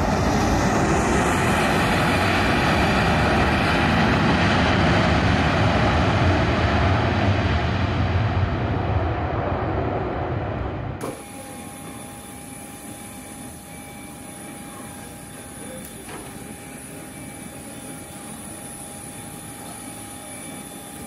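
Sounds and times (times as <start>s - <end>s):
continuous hum: 0.0s - 21.0s
thin high jet whine: 0.0s - 21.0s.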